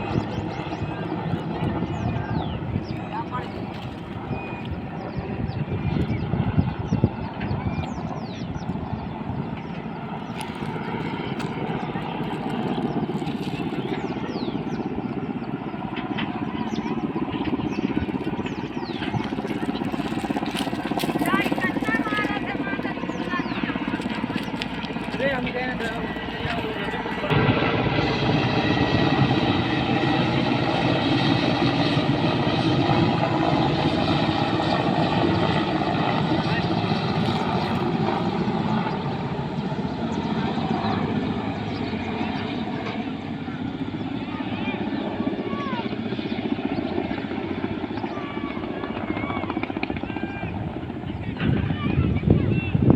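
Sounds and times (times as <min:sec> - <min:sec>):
helicopter rotor pulsing: 0:00.0 - 0:52.9.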